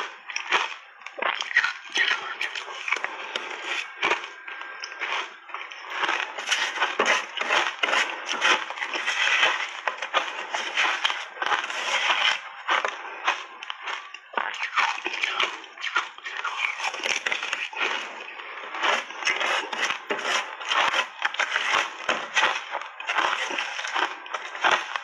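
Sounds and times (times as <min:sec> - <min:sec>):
ice crunching between teeth: 0:00.0 - 0:25.0.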